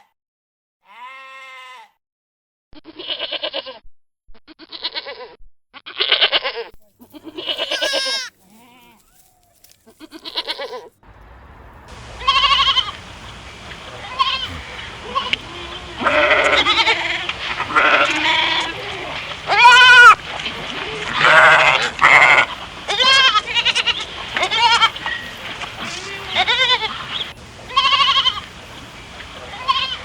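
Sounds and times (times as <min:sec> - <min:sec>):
goats bleating: 0:06.0 - 0:30.0.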